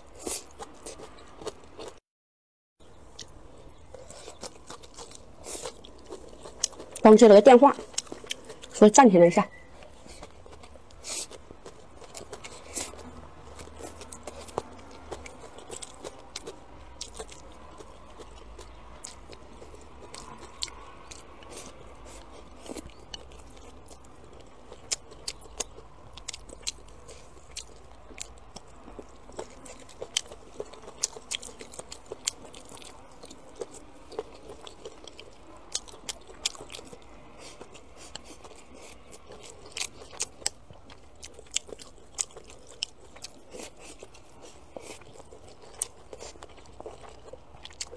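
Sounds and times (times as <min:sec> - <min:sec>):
person chewing crunchy food: 0:00.0 - 0:02.0, 0:03.0 - 0:08.8, 0:09.7 - 0:47.9.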